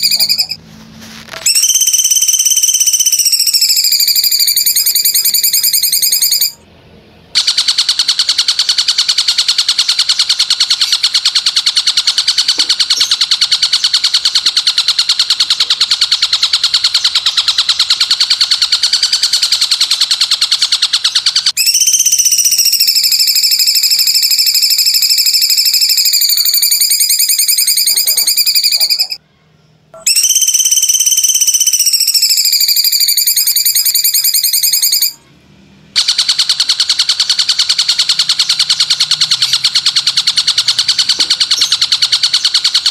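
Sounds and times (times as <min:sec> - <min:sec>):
high-pitched fast pulsing bird trill: 0:00.0 - 0:00.6, 0:01.4 - 0:06.6, 0:07.4 - 0:29.2, 0:30.0 - 0:35.2, 0:36.0 - 0:42.9.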